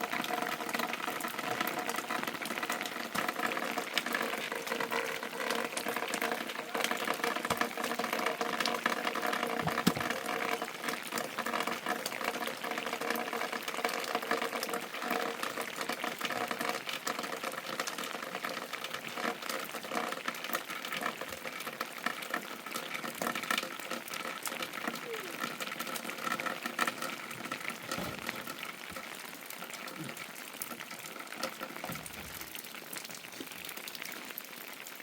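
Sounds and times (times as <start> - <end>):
steady rain: 0.0 - 35.0
water running and dripping: 0.0 - 35.0.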